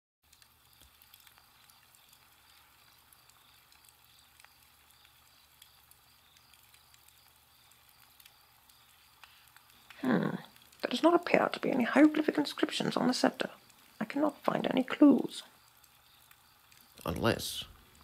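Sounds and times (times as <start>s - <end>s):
campfire crackling: 0.2s - 18.0s
small ticks: 0.2s - 18.0s
steady low hiss: 0.3s - 18.0s.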